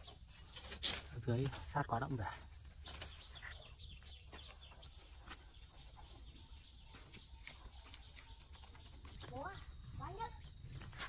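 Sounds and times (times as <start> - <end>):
high-pitched insect trill: 0.0 - 11.0
plants rustling and clicking: 0.0 - 11.0.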